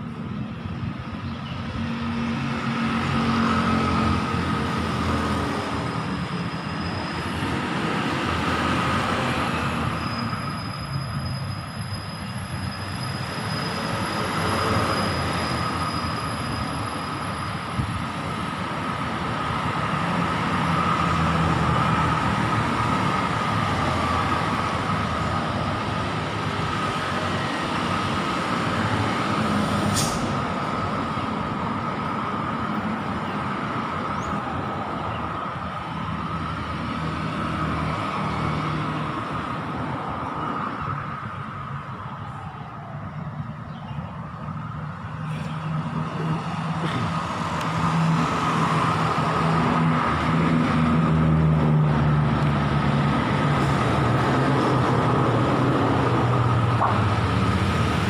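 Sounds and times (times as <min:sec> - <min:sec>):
cars and motorbikes passing: 0:00.0 - 0:11.6, 0:12.2 - 0:58.0.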